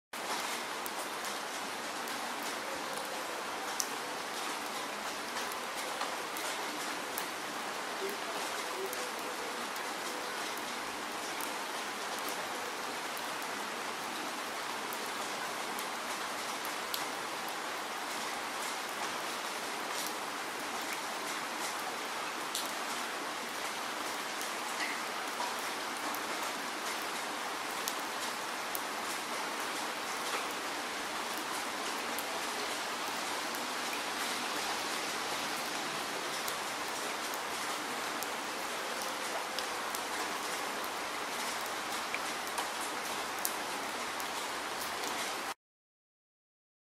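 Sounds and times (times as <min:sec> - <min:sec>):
steady rain falling: 0:00.2 - 0:45.6.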